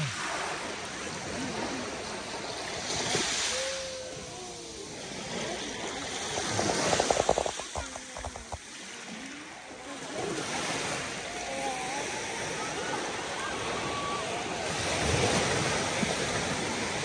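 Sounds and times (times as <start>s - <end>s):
small waves washing on sand: 0.0s - 17.0s.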